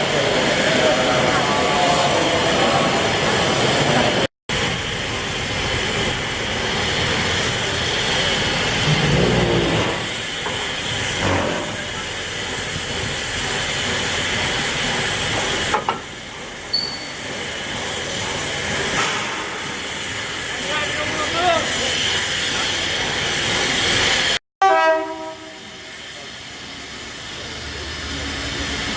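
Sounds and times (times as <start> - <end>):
steam locomotive hissing steam: 0.0 - 28.9.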